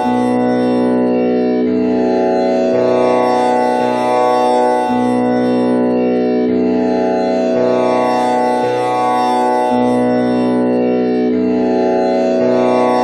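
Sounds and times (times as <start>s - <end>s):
tanpura drone plucked strings: 0.0s - 13.0s.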